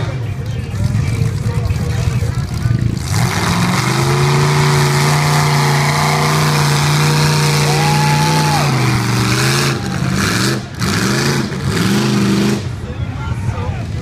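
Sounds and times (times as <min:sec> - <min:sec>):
truck engine revving hard: 0:00.0 - 0:12.8.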